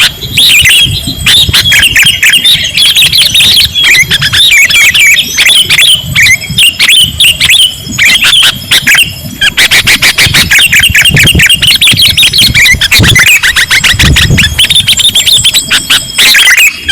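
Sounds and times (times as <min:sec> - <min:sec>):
bulbuls chattering chirps: 0:00.0 - 0:16.9.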